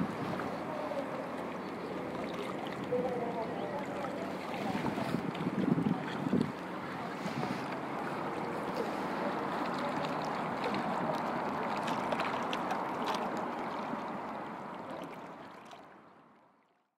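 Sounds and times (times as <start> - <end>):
lake waves lapping: 0.0 - 16.8.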